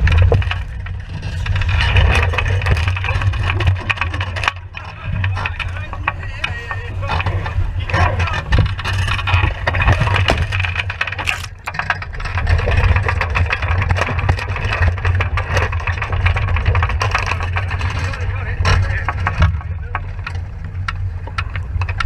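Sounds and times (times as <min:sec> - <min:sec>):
knocks and rattles: 0:00.0 - 0:22.0
wind buffeting microphone: 0:00.0 - 0:22.0.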